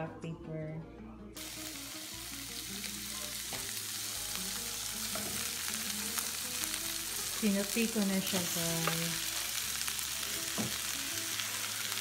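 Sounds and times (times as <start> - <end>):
vegetables sizzling in a pan: 1.4 - 12.0.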